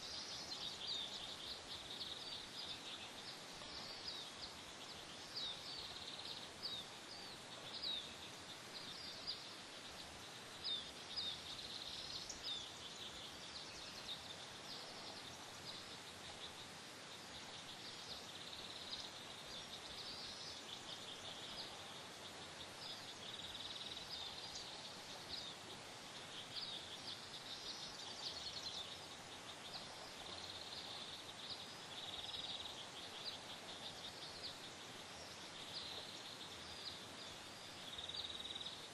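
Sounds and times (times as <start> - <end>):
outdoor hiss: 0.0 - 38.9.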